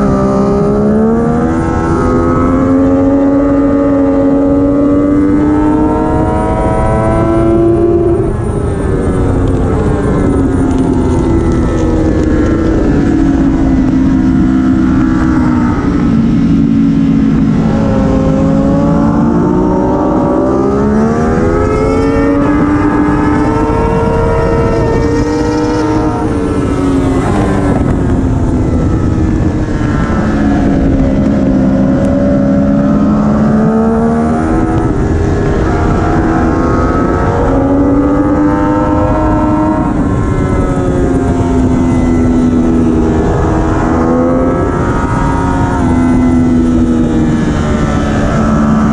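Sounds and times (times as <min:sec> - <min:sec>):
motorcycle engine accelerating: 0:00.0 - 0:48.9
wind noise: 0:00.0 - 0:48.9.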